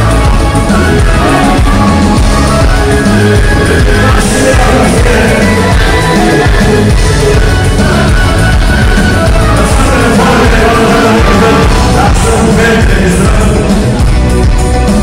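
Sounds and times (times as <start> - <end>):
man singing into microphone: 0.0 - 14.2
amplified music accompaniment: 0.0 - 15.0.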